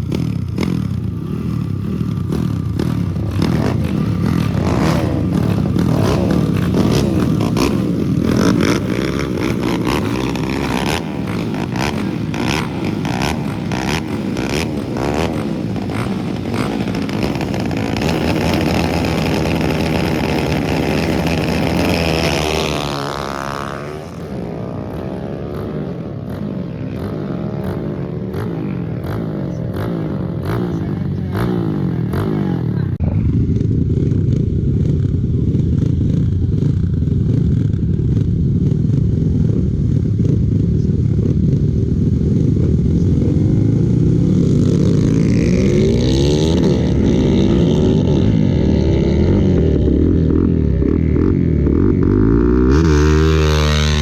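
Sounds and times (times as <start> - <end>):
motorcycle passing by: 0.0 - 54.0
racing motorcycle engines: 0.0 - 54.0.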